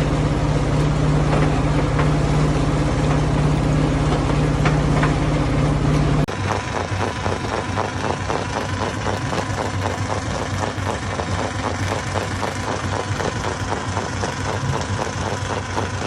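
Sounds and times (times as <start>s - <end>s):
engine running with rapid knocking: 0.0s - 16.0s
stone crusher machinery droning: 0.0s - 16.0s.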